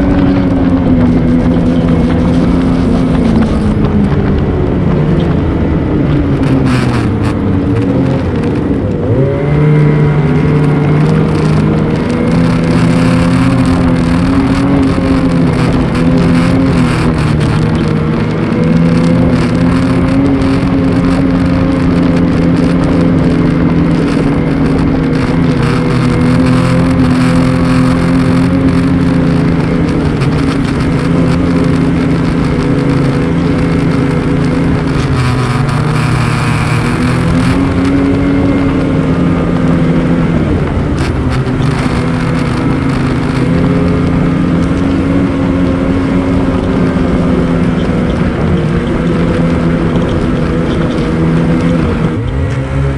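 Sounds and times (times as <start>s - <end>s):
snowmobile engine running: 0.0s - 52.9s
snowmobile track noise: 0.0s - 52.9s
wind: 0.0s - 52.9s.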